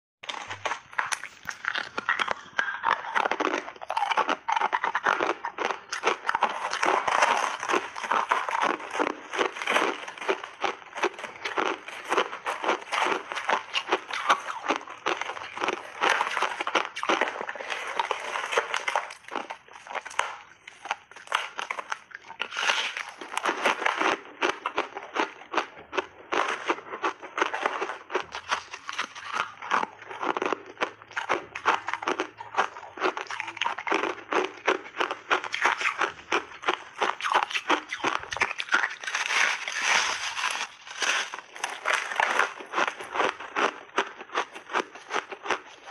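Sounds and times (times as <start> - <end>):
crunching and chewing ice: 0.2 - 45.9.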